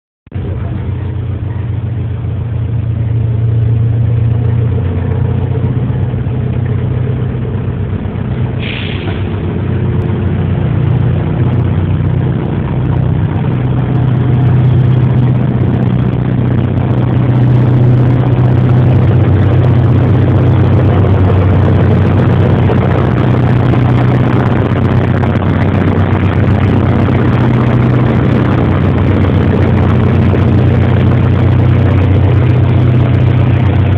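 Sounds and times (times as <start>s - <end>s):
diesel locomotive engine throbbing: 0.3s - 33.9s.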